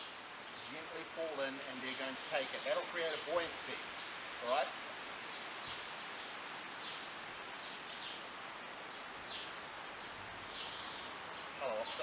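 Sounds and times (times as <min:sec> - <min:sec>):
garden background noise: 0:00.0 - 0:12.0.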